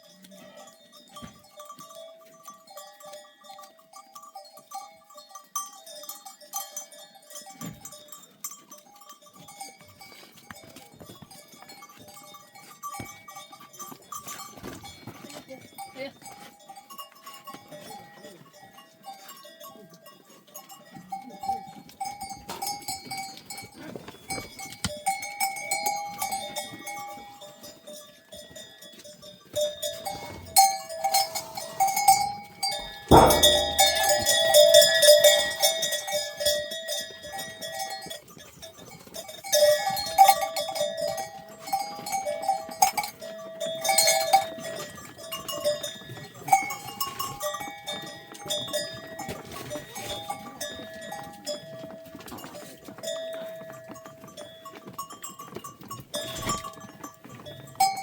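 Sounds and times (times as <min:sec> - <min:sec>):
animal bells clanking: 0:00.0 - 0:58.0.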